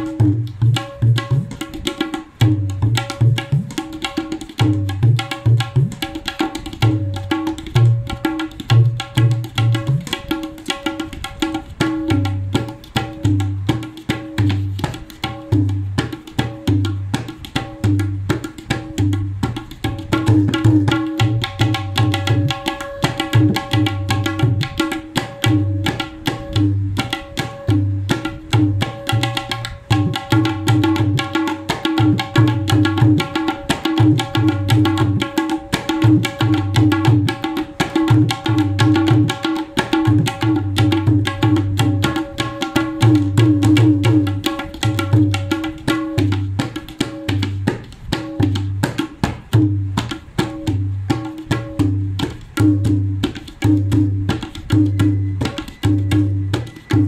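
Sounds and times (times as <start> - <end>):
tabla playing fast rhythm: 0.0 - 57.0.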